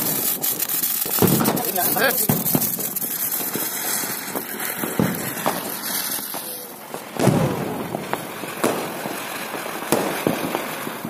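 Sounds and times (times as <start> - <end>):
firecracker bangs: 0.0 - 11.0
fireworks hissing and crackling: 0.0 - 11.0.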